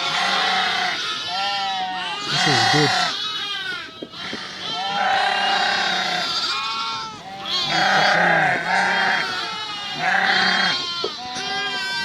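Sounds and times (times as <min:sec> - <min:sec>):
sheep and goats bleating: 0:00.0 - 0:12.0.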